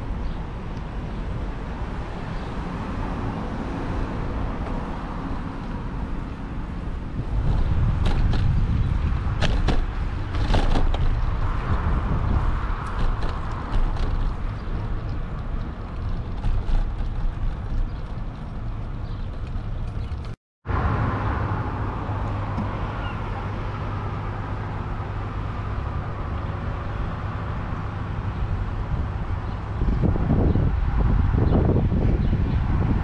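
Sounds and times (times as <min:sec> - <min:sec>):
wind on microphone: 0:00.0 - 0:20.4, 0:21.8 - 0:33.0
cars passing: 0:00.0 - 0:33.0.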